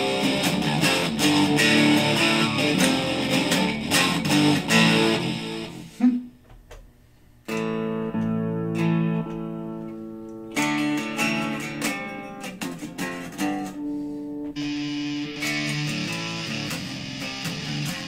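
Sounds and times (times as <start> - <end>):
electric guitar notes and chords: 0.0 - 6.2, 7.5 - 18.0.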